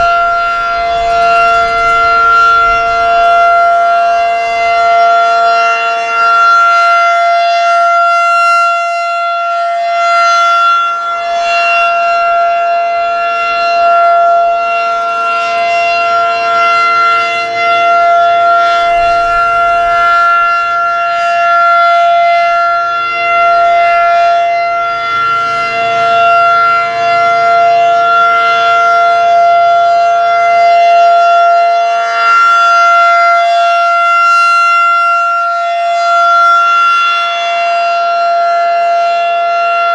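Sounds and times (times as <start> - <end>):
rotating warning siren tone: 0.0 - 39.9.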